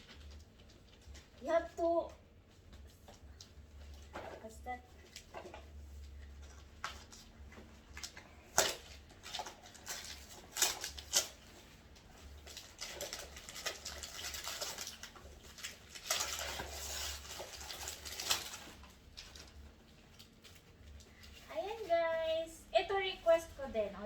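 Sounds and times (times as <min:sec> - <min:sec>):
gift wrapping crinkling: 0:00.0 - 0:23.9.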